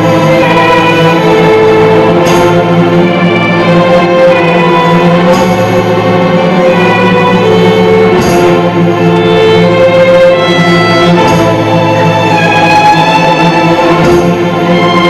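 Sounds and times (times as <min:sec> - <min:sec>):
low accompaniment: 0:00.0 - 0:15.0
violins playing a fiddle tune: 0:00.0 - 0:15.0.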